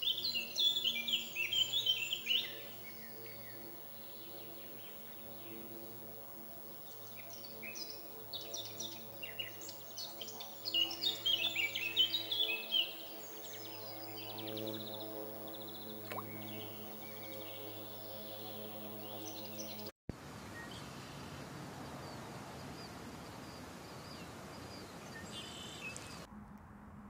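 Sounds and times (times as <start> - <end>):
steady low hum: 0.0 - 25.1.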